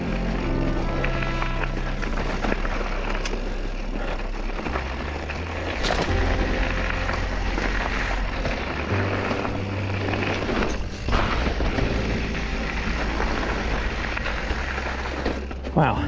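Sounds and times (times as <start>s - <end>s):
background music: 0.0s - 16.0s
bike rolling over rocky trail: 0.0s - 16.0s.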